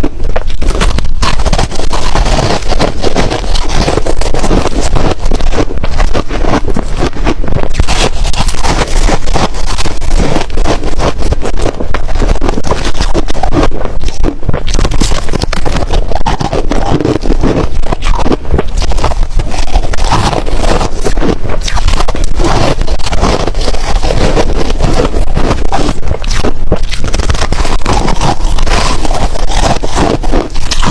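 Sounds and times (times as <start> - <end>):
ice being chewed: 0.0 - 30.9.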